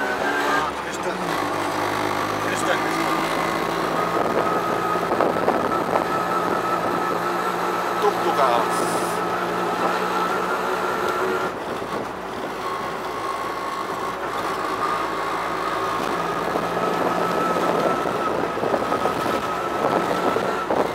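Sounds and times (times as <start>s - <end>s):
auto-rickshaw engine running: 0.0s - 20.9s
road noise and rattle: 0.0s - 20.9s.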